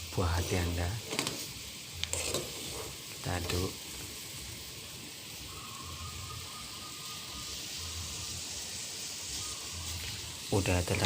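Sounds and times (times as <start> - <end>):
pot of water boiling: 0.0 - 11.0.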